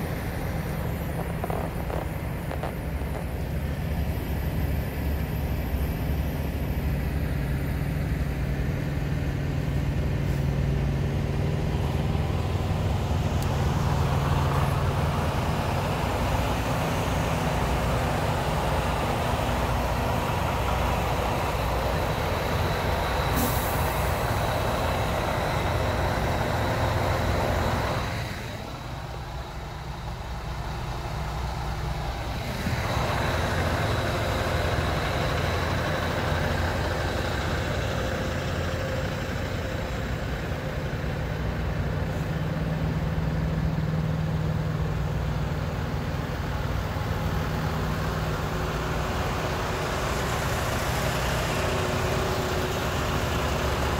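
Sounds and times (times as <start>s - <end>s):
diesel truck engines idling: 0.0s - 53.9s.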